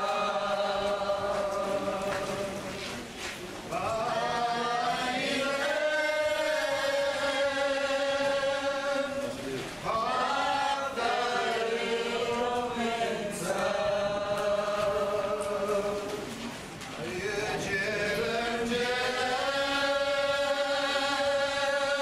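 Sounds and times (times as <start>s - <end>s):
voices singing a slow chant: 0.0s - 3.1s, 3.7s - 22.0s.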